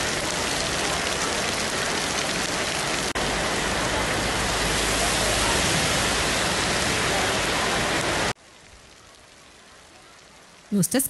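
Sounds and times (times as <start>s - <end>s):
heavy rain on road: 0.0s - 10.7s.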